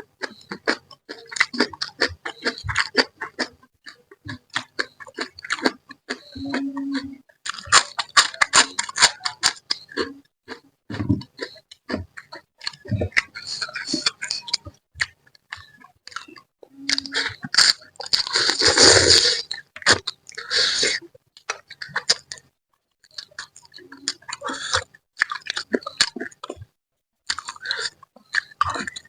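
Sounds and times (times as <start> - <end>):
wet chewing and lip-smacking: 0.0 - 29.0.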